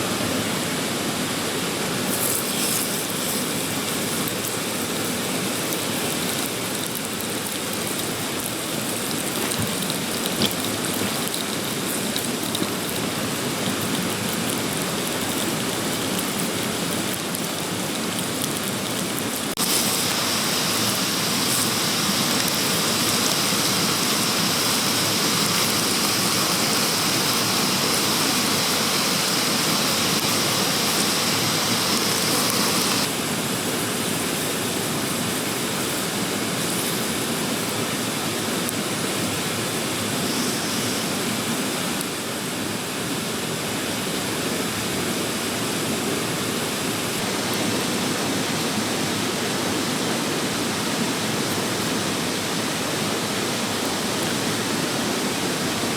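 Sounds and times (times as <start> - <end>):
stream water rushing: 2.8 - 55.9.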